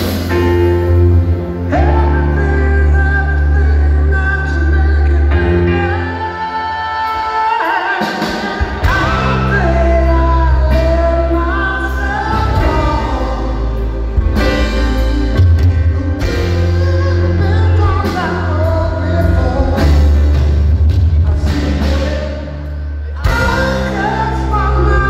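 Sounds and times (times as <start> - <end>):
keyboard: 0.0 - 25.0
male singer: 1.5 - 25.0.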